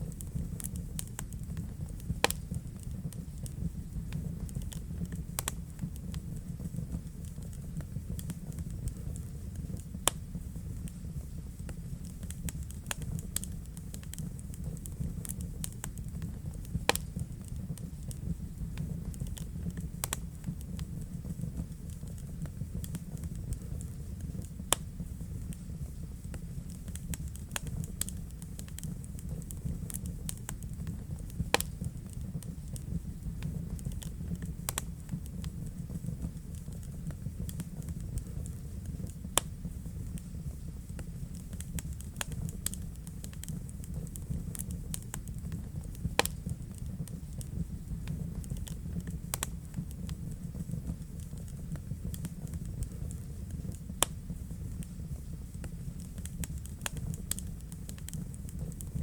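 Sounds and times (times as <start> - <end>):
fire flames rumbling: 0.0 - 59.0
wood fire crackling and popping: 0.0 - 59.0.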